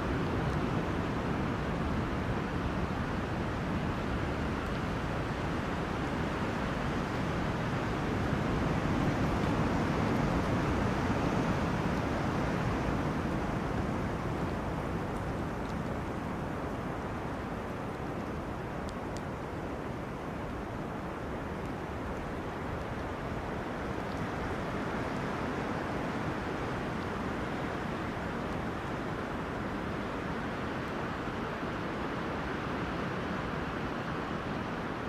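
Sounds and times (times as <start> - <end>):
wind through trees: 0.0 - 35.0.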